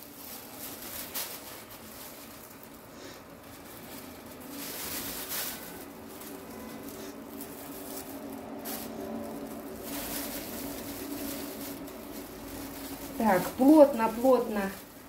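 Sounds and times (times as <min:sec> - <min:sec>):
plastic sleeve crinkling: 0:00.0 - 0:15.0.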